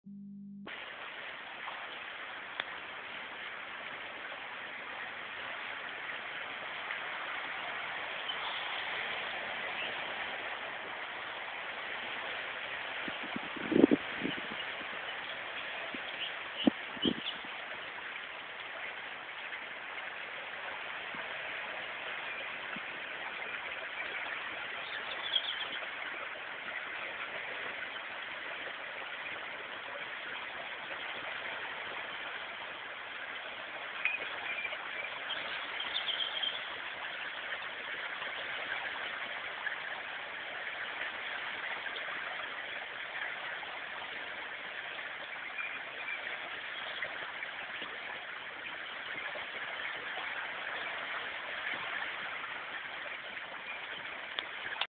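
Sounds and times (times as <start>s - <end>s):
river rushing: 0.7s - 54.9s.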